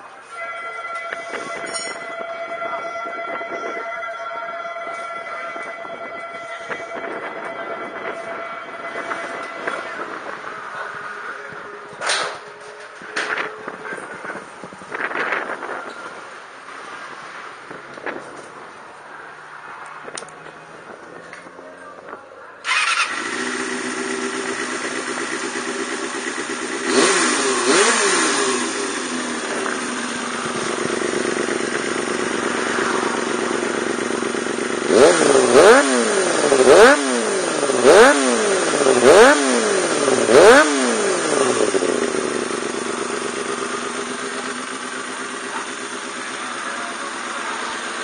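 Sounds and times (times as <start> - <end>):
motorcycle engine idling and revving: 0.0 - 4.0, 4.7 - 48.0.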